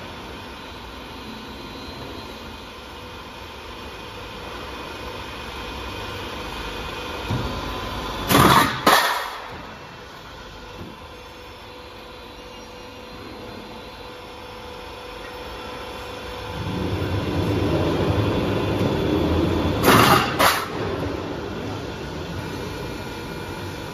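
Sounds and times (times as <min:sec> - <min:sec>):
roll forming machine humming: 0:00.0 - 0:23.9.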